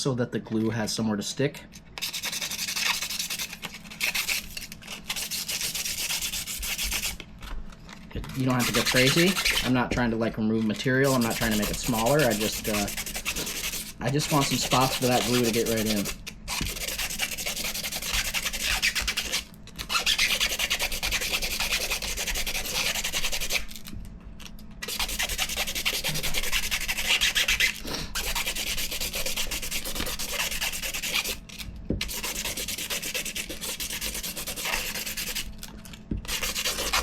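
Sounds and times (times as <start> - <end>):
sandpaper rubbing on plastic: 2.0 - 7.2, 8.2 - 9.8, 10.9 - 23.8, 24.8 - 35.5, 36.2 - 37.0.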